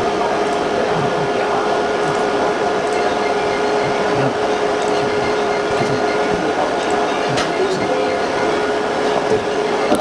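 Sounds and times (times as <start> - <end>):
fans whirring hum: 0.0 - 10.0.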